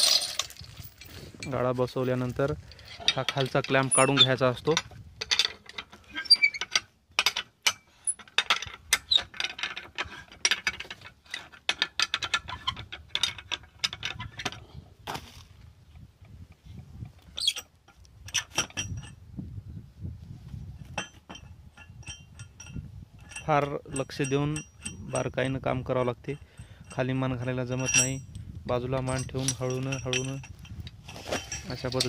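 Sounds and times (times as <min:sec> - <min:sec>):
metallic chain and clamp clinking: 0:00.0 - 0:14.6, 0:20.8 - 0:32.0.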